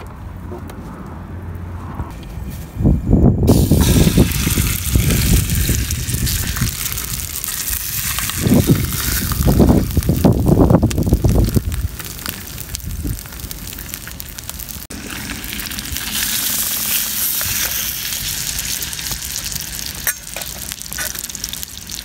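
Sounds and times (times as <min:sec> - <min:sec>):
low rumbling: 0:00.2 - 0:20.0
fish sizzling on hot plate: 0:03.5 - 0:14.1, 0:14.7 - 0:22.0.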